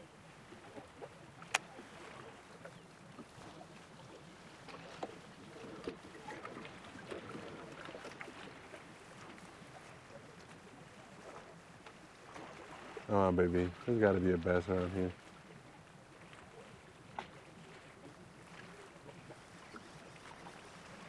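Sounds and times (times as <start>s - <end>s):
faint river water moving: 0.0s - 21.0s.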